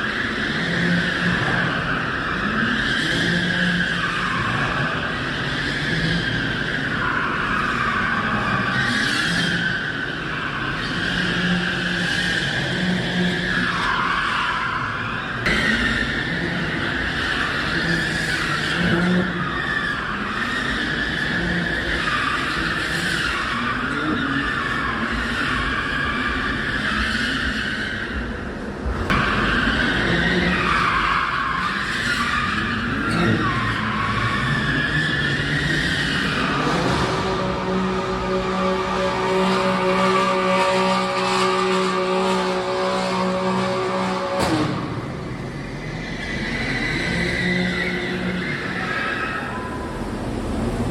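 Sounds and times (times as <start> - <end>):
car engine revving: 0.0 - 50.9
car tyres squealing: 0.0 - 50.9.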